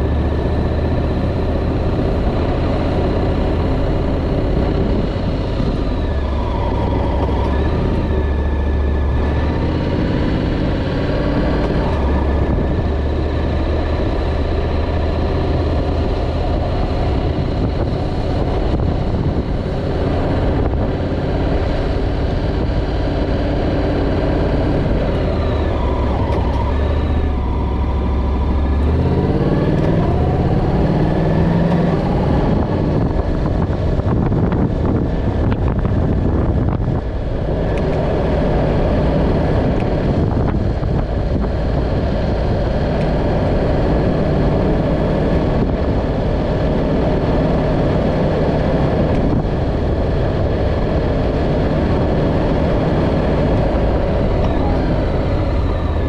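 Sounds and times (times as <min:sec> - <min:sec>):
motorcycle engine running: 0:00.0 - 0:56.0
road noise: 0:00.0 - 0:56.0
wind noise: 0:00.0 - 0:56.0.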